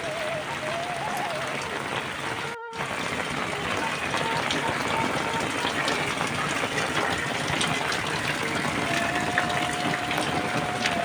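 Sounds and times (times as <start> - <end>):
drip-like ticks: 0.0 - 11.0
heavy rain hissing: 0.0 - 11.0.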